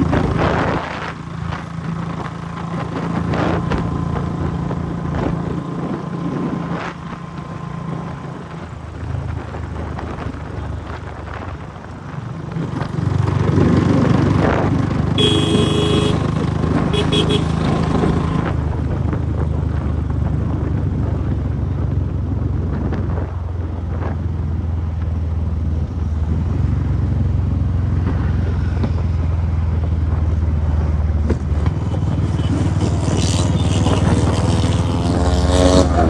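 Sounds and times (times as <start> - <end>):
motorcycle engine at speed: 0.0 - 36.0.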